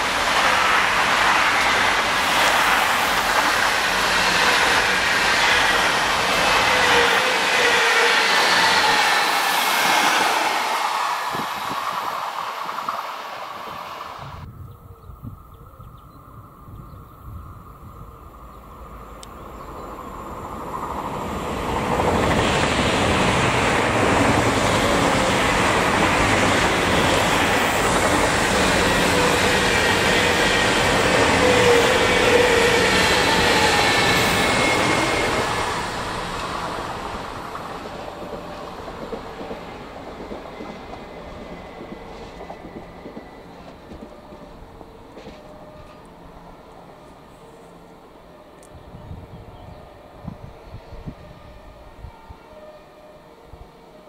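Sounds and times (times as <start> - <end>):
high-speed train passing: 0.0 - 54.0.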